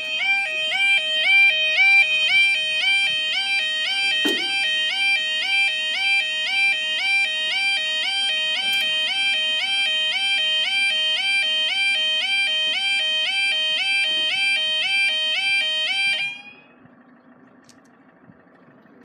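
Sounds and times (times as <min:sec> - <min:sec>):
level crossing alarm warbling: 0:00.0 - 0:16.7.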